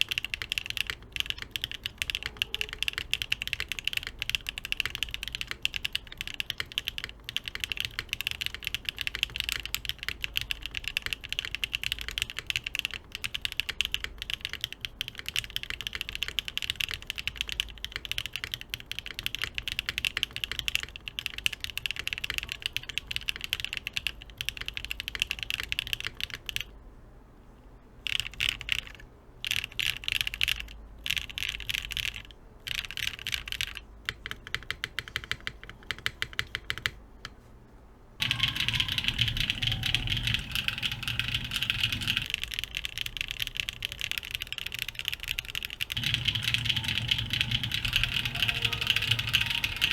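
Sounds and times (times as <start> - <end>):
fast mechanical keyboard typing: 0.0 - 26.7, 28.0 - 37.0, 38.2 - 49.9.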